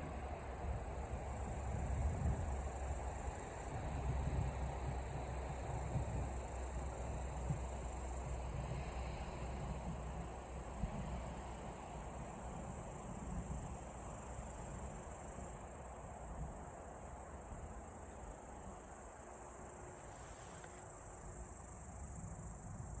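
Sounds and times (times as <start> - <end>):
crickets trilling: 0.1 - 23.0.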